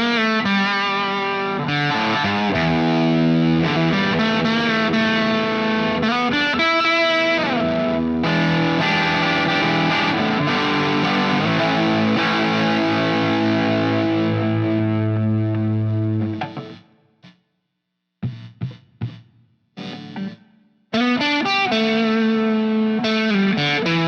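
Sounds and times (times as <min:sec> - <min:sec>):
scratchy guitar pick noise: 0:00.0 - 0:16.8, 0:19.8 - 0:24.0
electric guitar chords: 0:00.0 - 0:17.0, 0:19.8 - 0:24.0.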